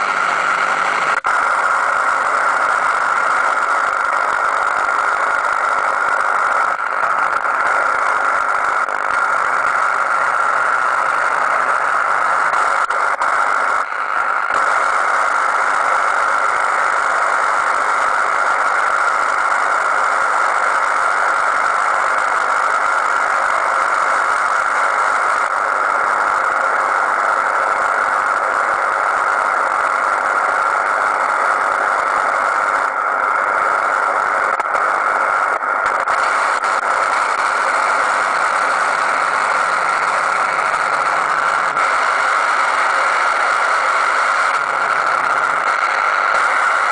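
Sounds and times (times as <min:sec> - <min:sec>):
radio receiver harsh hiss: 0:00.0 - 0:46.9.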